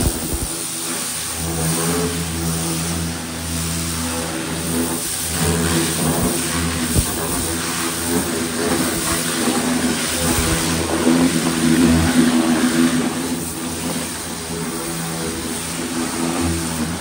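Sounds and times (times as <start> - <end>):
pressure washer motor hum: 0.0 - 17.0
water jet hissing on metal: 0.0 - 17.0.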